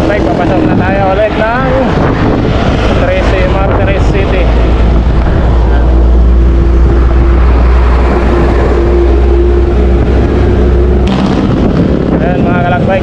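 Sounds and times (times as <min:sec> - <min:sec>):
highway traffic rumble: 0:00.0 - 0:13.0
steady droning tone: 0:00.0 - 0:13.0
truck passing: 0:00.0 - 0:13.0.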